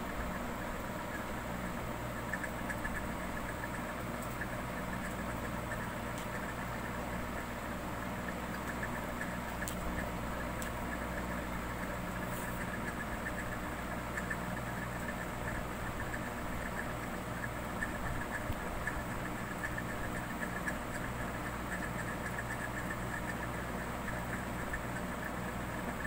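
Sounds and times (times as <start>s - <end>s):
low mechanical hum: 0.0s - 26.0s
faint clicks: 2.1s - 26.0s.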